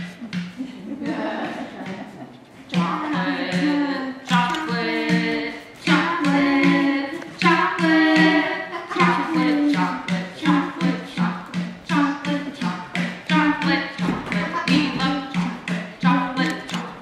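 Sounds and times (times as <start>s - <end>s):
song with singing voices: 0.0s - 17.0s.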